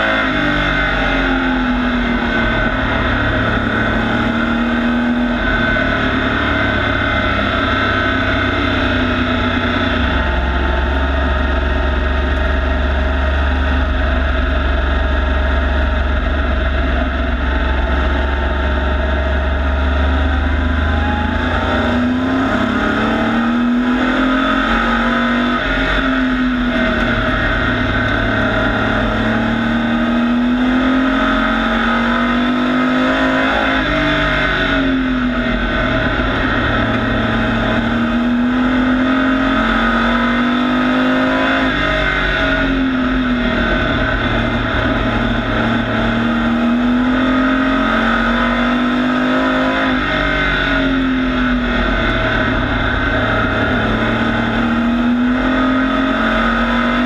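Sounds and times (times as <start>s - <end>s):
race truck engine: 0.0s - 57.0s.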